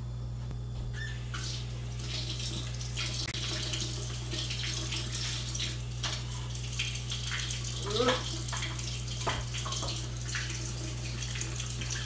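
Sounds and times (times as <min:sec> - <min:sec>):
tap water splashing into sink: 0:01.3 - 0:12.0.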